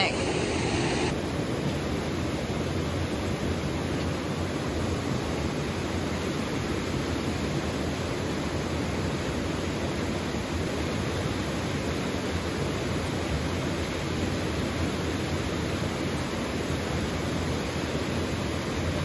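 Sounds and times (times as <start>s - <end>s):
small waterfall rushing: 0.0s - 19.0s.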